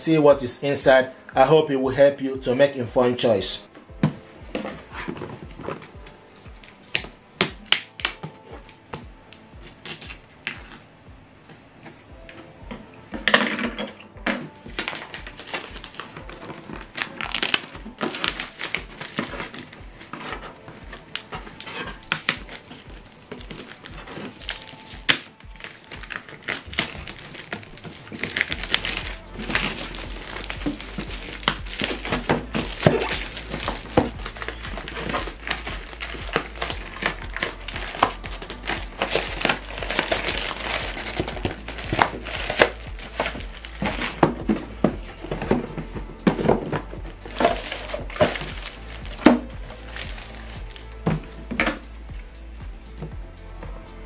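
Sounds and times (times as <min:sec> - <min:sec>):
background music: 0:00.0 - 0:54.0
plastic and cardboard crinkling: 0:04.1 - 0:10.9, 0:11.8 - 0:52.4.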